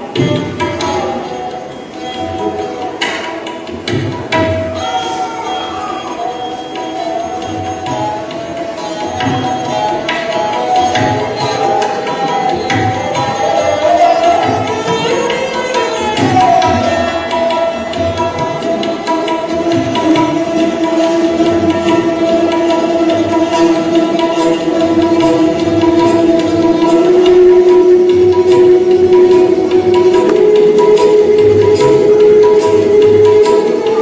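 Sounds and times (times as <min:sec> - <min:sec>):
bowed string instrument melody: 0:00.0 - 0:34.0
percussion strokes: 0:00.0 - 0:34.0.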